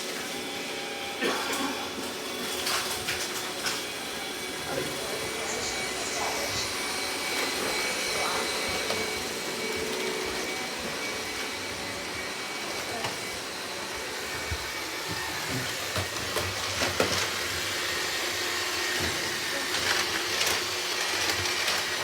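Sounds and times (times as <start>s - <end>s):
robot vacuum cleaner running: 0.0s - 22.0s.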